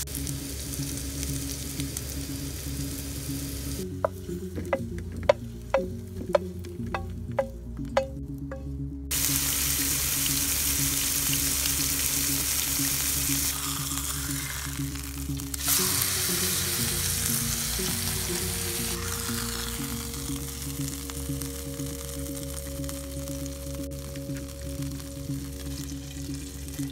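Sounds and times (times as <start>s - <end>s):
oil sizzling in frying pan: 0.0s - 3.8s, 9.1s - 26.9s.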